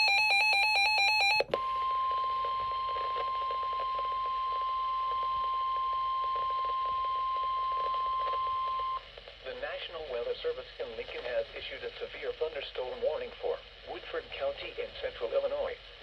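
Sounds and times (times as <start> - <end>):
faint radio static crackle: 0.1 - 16.0
steady weather radio alert tone: 1.4 - 15.9.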